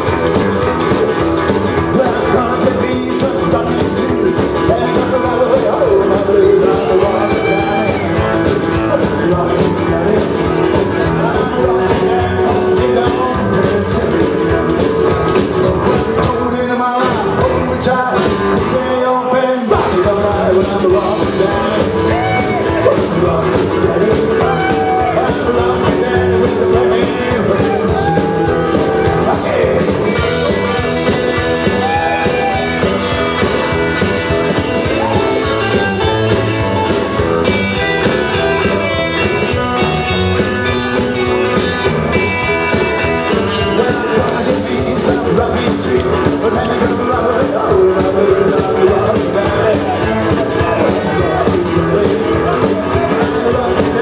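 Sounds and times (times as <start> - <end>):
electric bass: 0.0 - 19.0, 19.7 - 54.0
drums: 0.0 - 54.0
electric guitar: 0.0 - 54.0
person singing lead vocal: 0.0 - 54.0.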